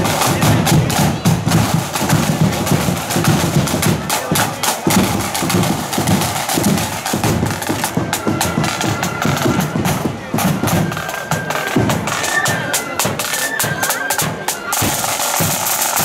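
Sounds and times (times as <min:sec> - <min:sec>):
drums beating march rhythm: 0:00.0 - 0:16.0
flutes playing: 0:00.0 - 0:16.0.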